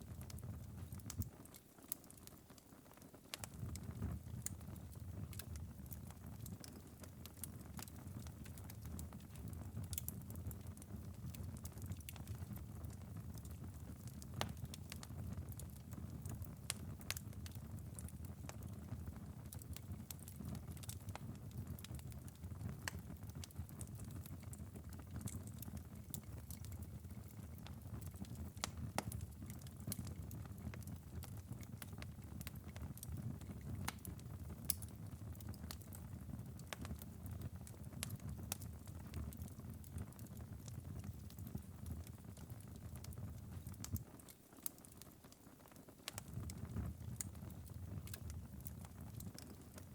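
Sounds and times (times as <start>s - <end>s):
embers crackling and popping: 0.0s - 49.9s.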